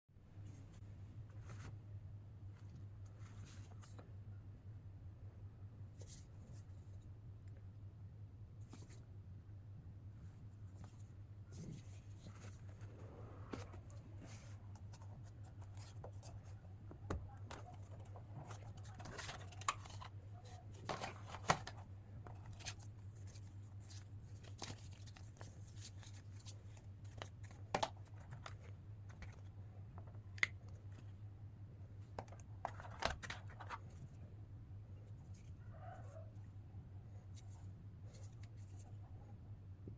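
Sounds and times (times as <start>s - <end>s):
steady low hum: 0.2s - 39.9s.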